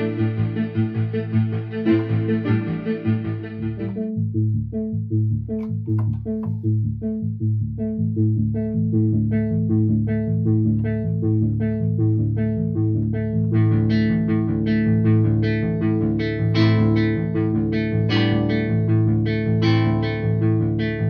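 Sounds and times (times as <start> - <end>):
synthesizer playing plucky bass notes: 0.0 - 21.0.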